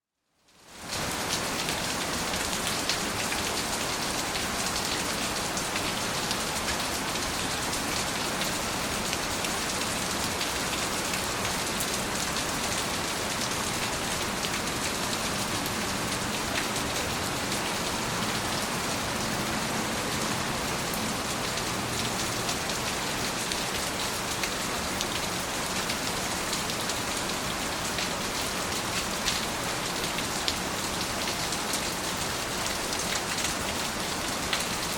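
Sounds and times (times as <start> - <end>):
rain pattering on surfaces: 0.4 - 34.9.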